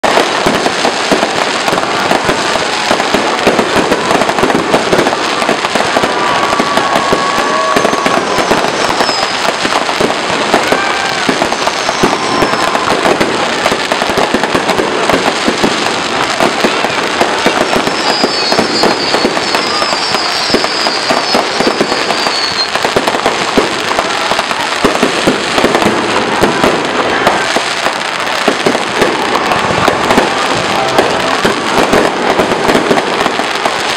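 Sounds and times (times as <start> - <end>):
fireworks bursts and crackle: 0.0 - 33.9.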